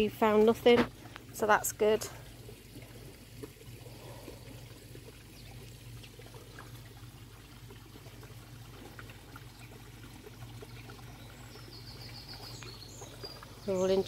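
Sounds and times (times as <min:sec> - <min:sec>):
low steady hum: 0:00.0 - 0:14.0
water trickling into pond: 0:00.0 - 0:14.0.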